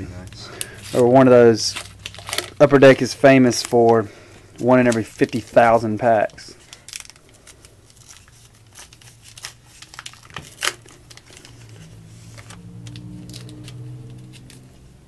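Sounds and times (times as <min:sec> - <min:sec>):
card pack wrappers tearing: 0:00.2 - 0:14.7.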